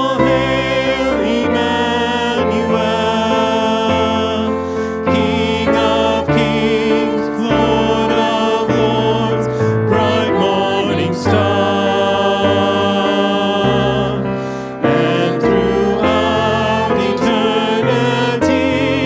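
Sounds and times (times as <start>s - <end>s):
keyboard accompaniment: 0.0s - 19.0s
voices singing held notes: 0.0s - 19.0s.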